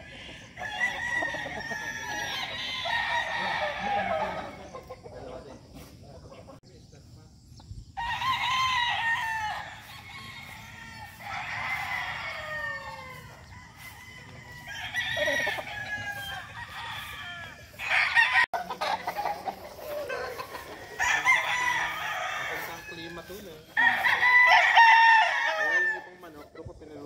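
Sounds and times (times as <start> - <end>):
roosters crowing: 0.0 - 5.9, 7.8 - 27.0.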